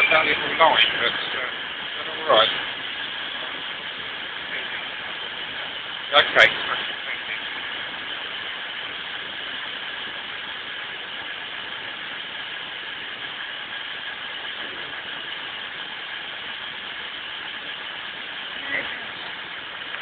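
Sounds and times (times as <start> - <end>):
trains droning: 0.0 - 19.9
high even whine: 0.0 - 20.0.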